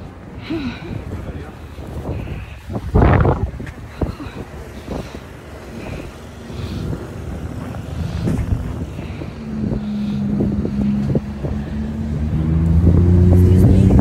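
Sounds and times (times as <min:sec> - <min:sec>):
vehicle engine humming: 0:00.0 - 0:14.0
wind rumble on microphone: 0:00.0 - 0:14.0.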